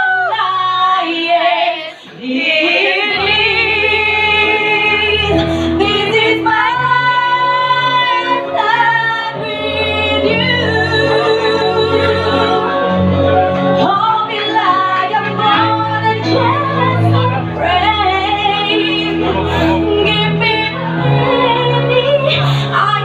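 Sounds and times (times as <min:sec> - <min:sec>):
woman singing: 0:00.0 - 0:13.1, 0:13.8 - 0:23.0
backing track music: 0:02.6 - 0:23.0
bass notes: 0:03.0 - 0:23.0.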